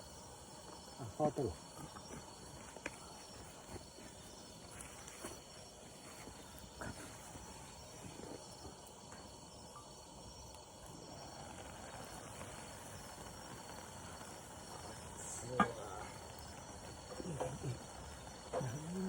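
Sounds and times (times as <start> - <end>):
faint outdoor hush: 0.0 - 19.0
insects chirring: 0.0 - 19.0.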